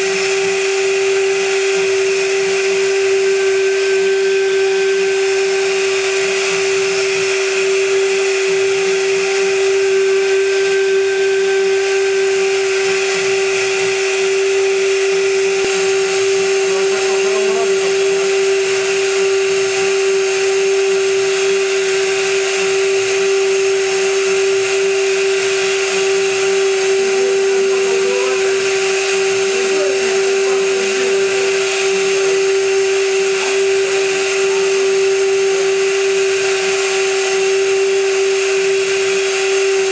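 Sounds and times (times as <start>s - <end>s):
hiss of metal cutting: 0.0s - 39.9s
milling machine spindle whine: 0.0s - 39.9s.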